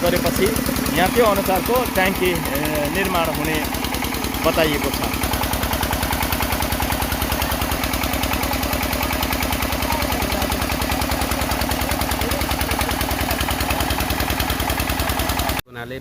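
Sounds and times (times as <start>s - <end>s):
drilling rig engine running: 0.0s - 15.6s.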